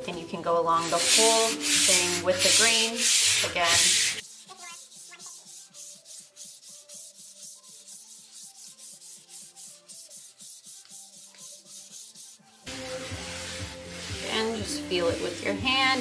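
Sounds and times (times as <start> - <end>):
sandpaper rubbing on wood: 0.8 - 16.0.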